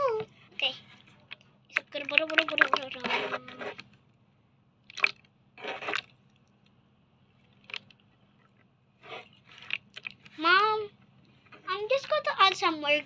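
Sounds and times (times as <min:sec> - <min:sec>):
slime squelching under fingers: 0:00.0 - 0:04.2, 0:04.8 - 0:12.8.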